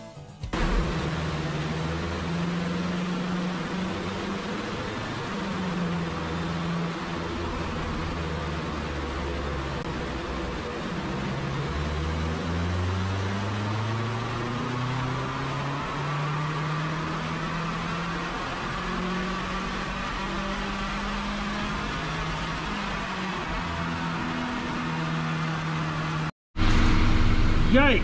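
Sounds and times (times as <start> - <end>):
car engine under load: 0.4 - 28.0.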